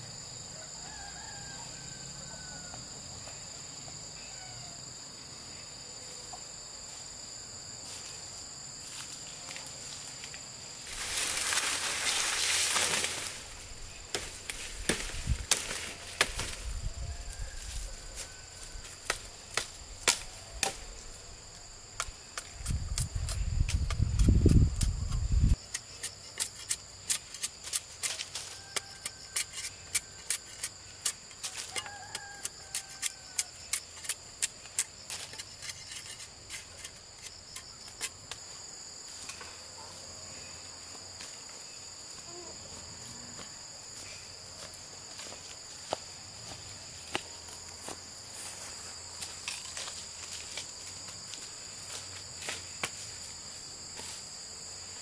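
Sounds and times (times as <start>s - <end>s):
crickets buzzing: 0.0s - 55.0s.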